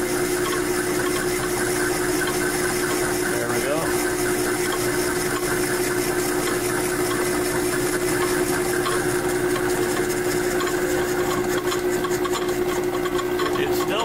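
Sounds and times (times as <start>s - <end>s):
metal lathe humming and whining: 0.0s - 14.0s.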